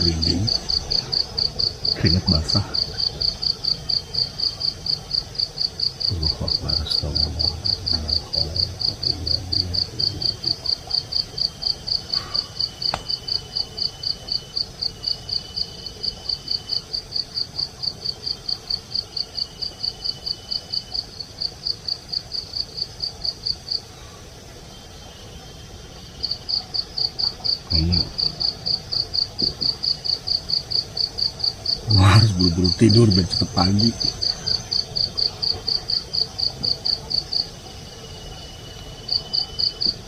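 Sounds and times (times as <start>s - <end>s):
cricket chirping: 0.0s - 40.0s
high insect trills: 0.0s - 40.0s.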